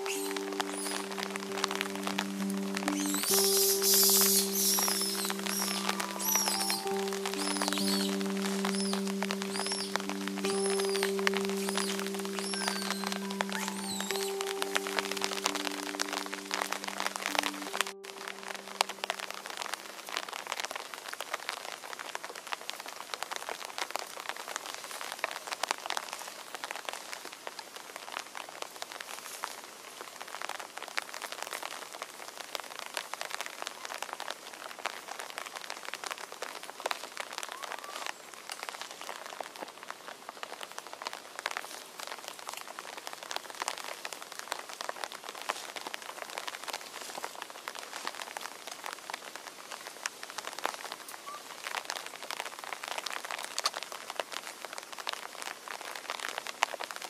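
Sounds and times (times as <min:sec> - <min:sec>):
rain on foliage: 0:00.0 - 0:57.0
raindrops ticking: 0:00.0 - 0:57.0.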